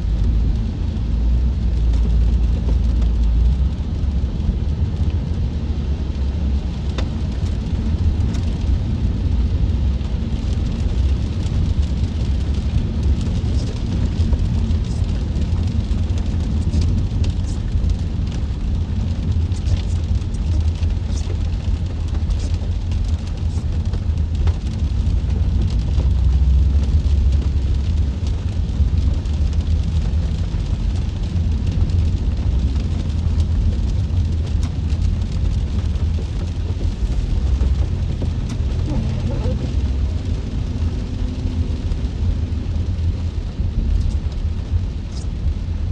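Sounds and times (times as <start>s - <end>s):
rain ticking: 0.0s - 45.9s
road rumble inside car: 0.0s - 45.9s.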